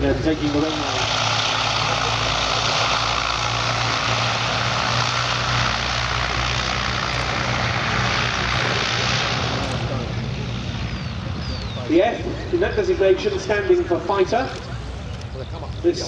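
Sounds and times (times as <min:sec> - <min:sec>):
propeller aircraft engines droning: 0:00.0 - 0:16.0.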